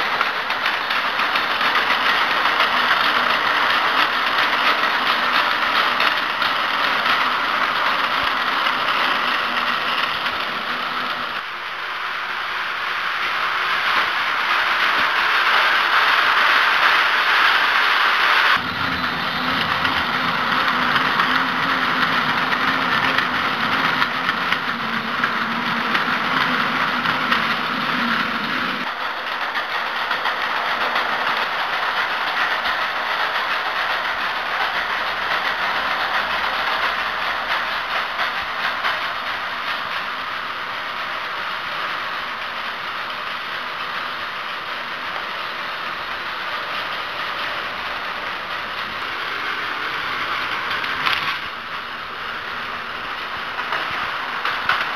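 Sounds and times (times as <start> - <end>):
wheels clattering over plastic track: 0.0 - 11.5, 13.0 - 54.9
toy train motor hum: 0.0 - 54.9.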